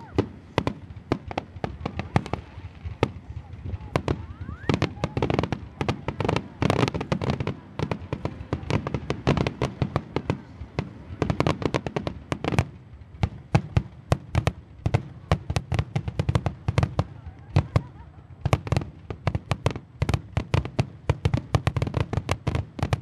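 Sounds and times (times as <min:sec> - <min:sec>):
fireworks bursts and crackling bangs: 0:00.0 - 0:23.0.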